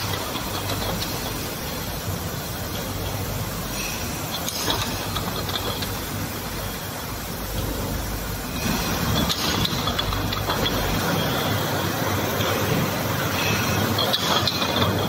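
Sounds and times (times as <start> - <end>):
mechanical rattling and clatter: 0.0 - 15.0.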